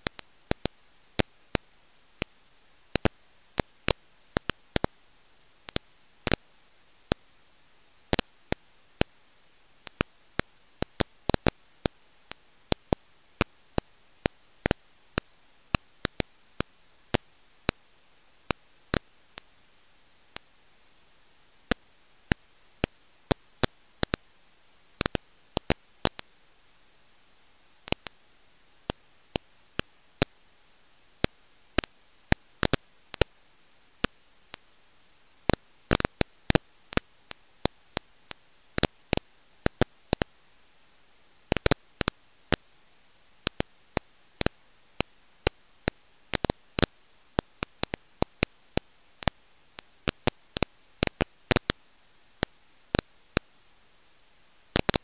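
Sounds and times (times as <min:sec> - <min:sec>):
faint steady hiss: 0:00.0 - 0:55.0
old recording crackle: 0:00.0 - 0:55.0.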